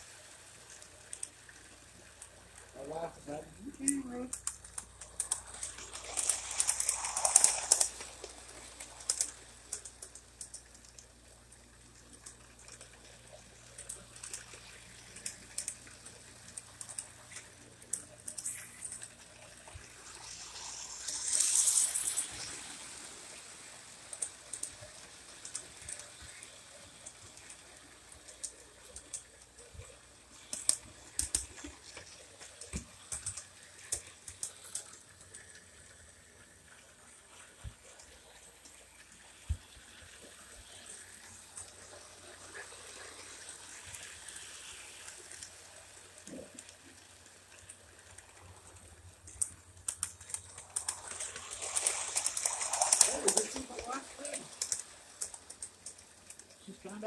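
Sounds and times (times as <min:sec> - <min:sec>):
model train wheels clicking: 0:00.0 - 0:57.0.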